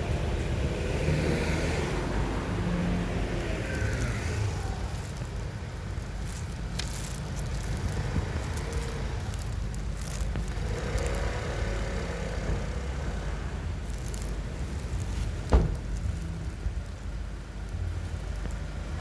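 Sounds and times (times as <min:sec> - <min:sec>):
low mechanical rumble: 0:01.8 - 0:19.0.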